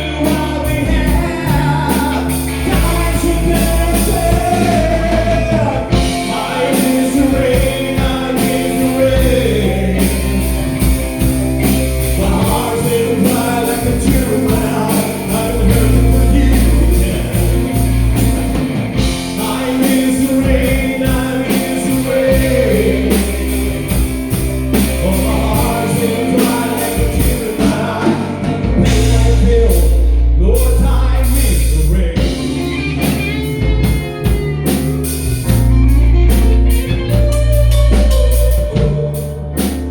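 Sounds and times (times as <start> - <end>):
rock song with singer and band: 0.0 - 39.9.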